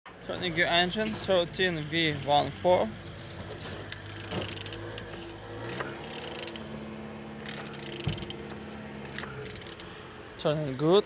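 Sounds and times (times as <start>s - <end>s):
engine internals clicking and scraping: 0.4s - 11.0s.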